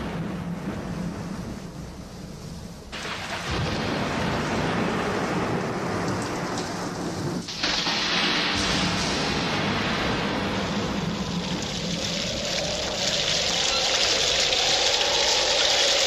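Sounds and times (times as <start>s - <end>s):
rumbling thunder: 0.0s - 16.0s
steady rain: 0.0s - 16.0s.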